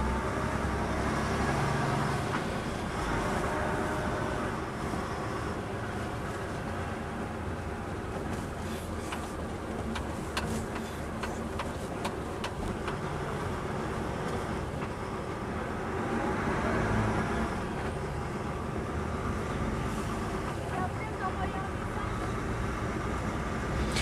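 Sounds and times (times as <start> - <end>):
road noise: 0.0 - 24.0
truck diesel engine: 0.0 - 24.0.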